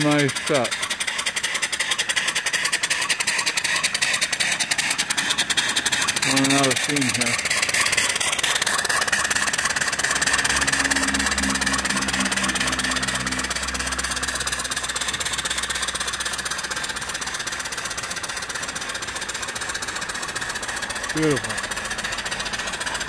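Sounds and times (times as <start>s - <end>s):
steam engine exhaust beats: 0.0s - 23.0s.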